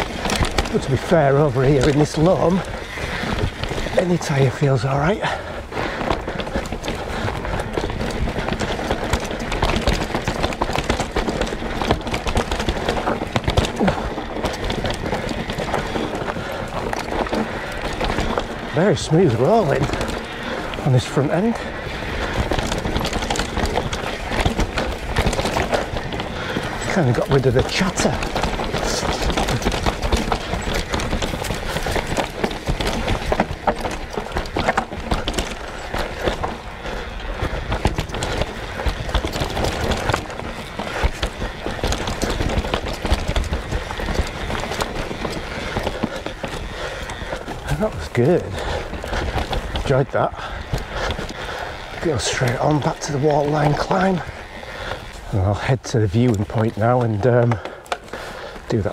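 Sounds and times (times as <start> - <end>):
bike clicking and rattling: 0.0 - 58.9
tyres rolling over dirt: 0.0 - 58.9.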